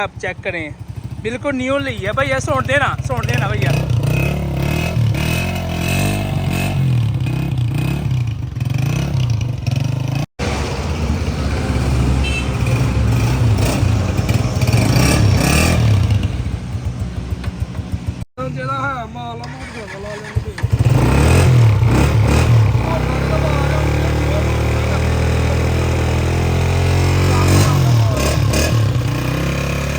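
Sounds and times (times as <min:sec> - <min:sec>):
motorcycle engine running: 0:00.0 - 0:18.9, 0:19.6 - 0:29.9.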